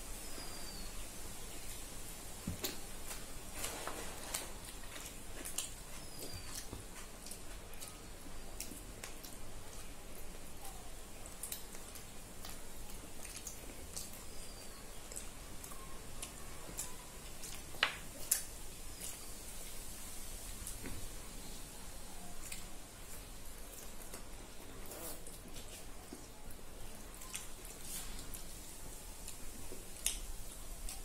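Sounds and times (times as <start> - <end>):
low hiss: 0.0 - 31.0
mouths chewing: 0.0 - 31.0.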